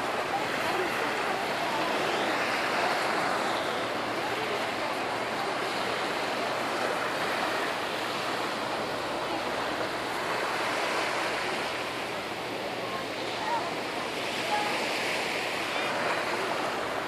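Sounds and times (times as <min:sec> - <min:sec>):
sea surf washing ashore: 0:00.0 - 0:17.0.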